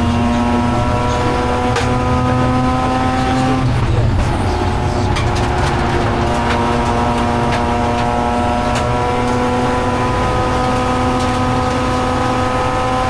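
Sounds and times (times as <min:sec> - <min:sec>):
rotary engine at high revs: 0:00.0 - 0:13.0.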